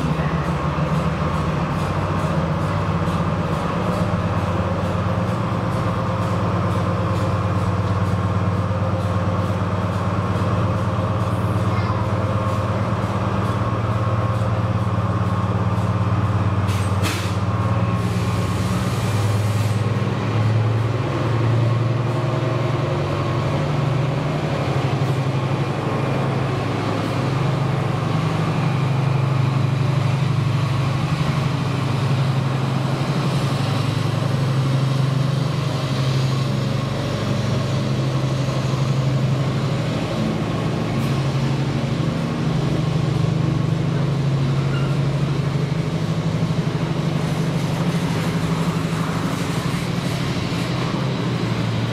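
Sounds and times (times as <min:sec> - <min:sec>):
container wagons rumbling: 0:00.0 - 0:51.9
diesel locomotive engine droning: 0:00.0 - 0:51.9.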